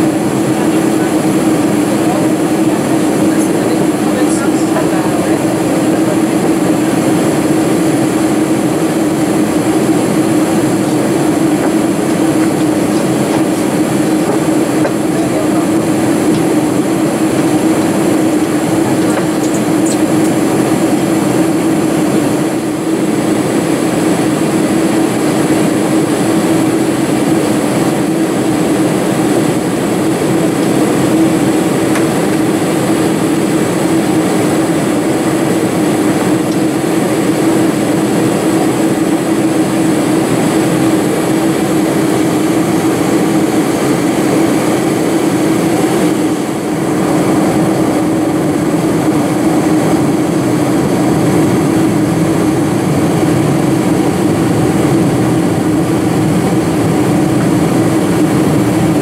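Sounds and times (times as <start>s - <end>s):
aircraft engine drone: 0.0s - 59.0s
rushing airflow: 0.0s - 59.0s.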